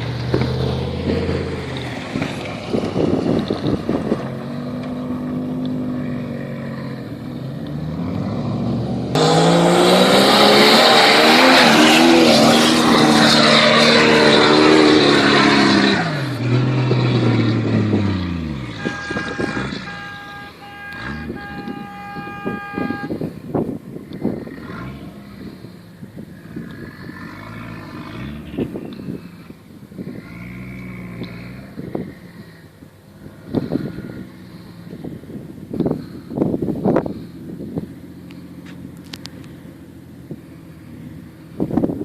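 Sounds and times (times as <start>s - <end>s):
off-road vehicle engine revving: 0.0s - 42.0s.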